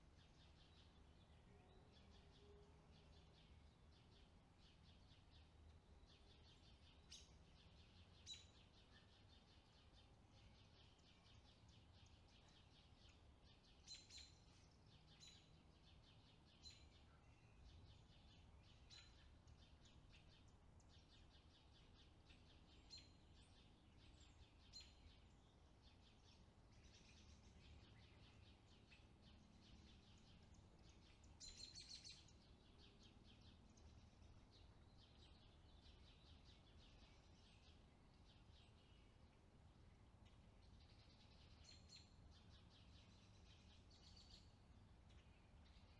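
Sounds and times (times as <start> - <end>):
bird chirping: 0.0 - 45.9
soft steady high hiss: 0.0 - 45.9.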